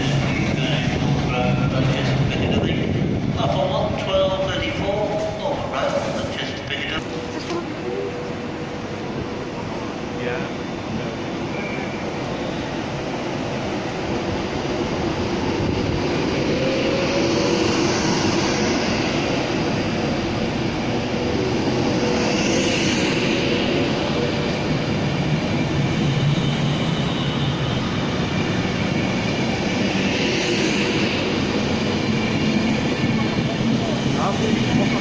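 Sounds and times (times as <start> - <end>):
electric train whine: 0.0 - 35.0
train wheels rumbling: 0.0 - 35.0.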